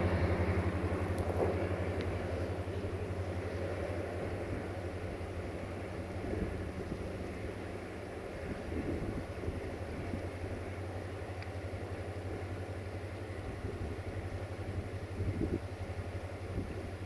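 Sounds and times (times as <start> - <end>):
distant train rumbling: 0.0 - 17.0.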